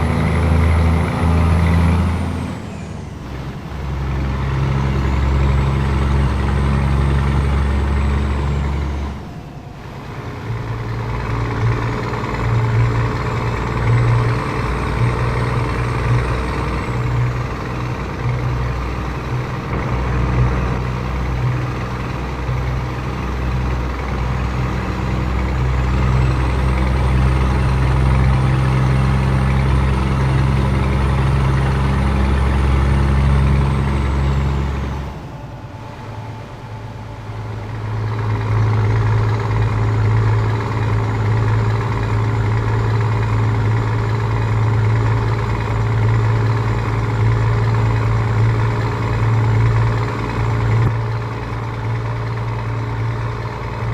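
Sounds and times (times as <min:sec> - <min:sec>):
truck engine running loud: 0:00.0 - 0:53.9.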